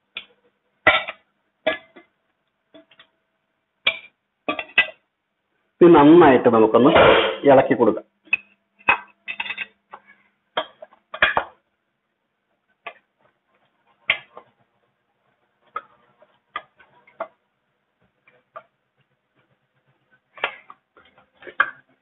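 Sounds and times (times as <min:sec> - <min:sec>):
broth boiling: 0:00.0 - 0:22.0.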